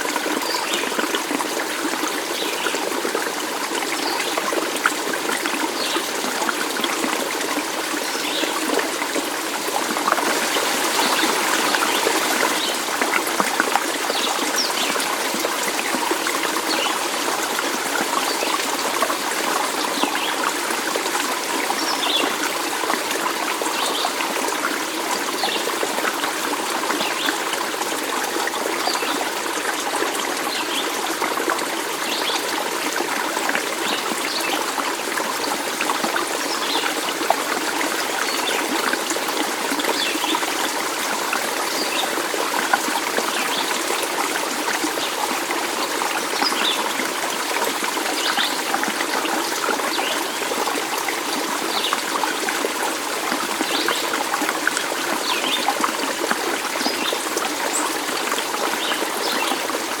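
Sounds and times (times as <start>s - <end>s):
stream water trickling: 0.0s - 60.0s.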